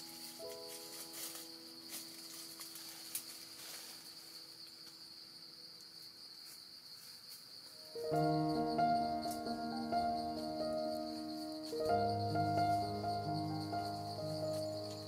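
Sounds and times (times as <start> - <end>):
soft held music notes: 0.0 - 5.1, 7.6 - 15.0
insects droning: 0.0 - 15.0
rustles and clicks in leaf litter: 0.0 - 15.0.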